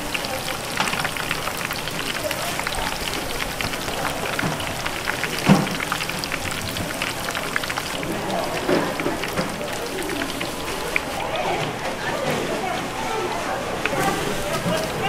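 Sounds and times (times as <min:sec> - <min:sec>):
tempura frying in hot oil: 0:00.0 - 0:15.0.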